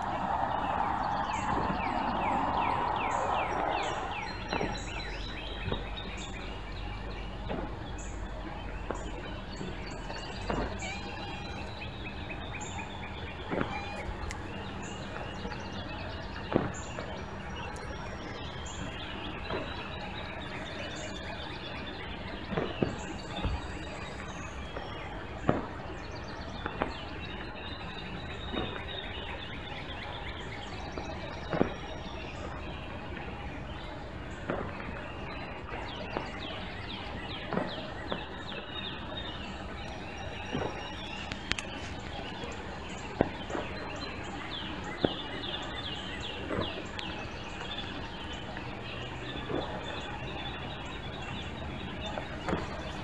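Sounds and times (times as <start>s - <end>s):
background noise: 0.0s - 53.0s
small birds chirping: 0.0s - 53.0s.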